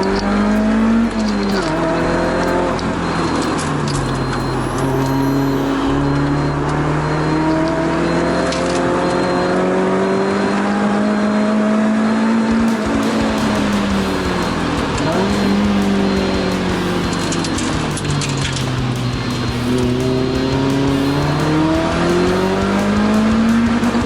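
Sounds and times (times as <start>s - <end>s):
car engine under load: 0.0s - 24.0s.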